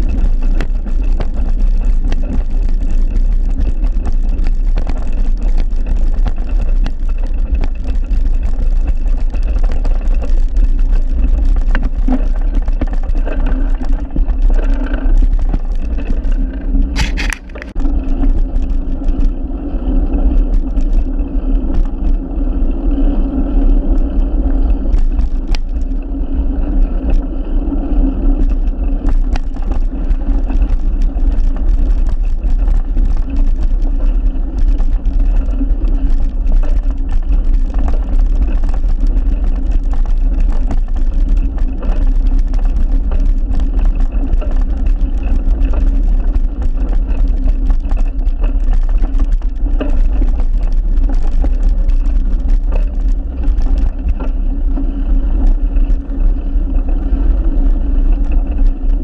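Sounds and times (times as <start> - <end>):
small knocks and rattles: 0.0 - 19.4, 23.9 - 26.0, 28.2 - 57.2
bike riding rumble and hum: 0.0 - 59.0.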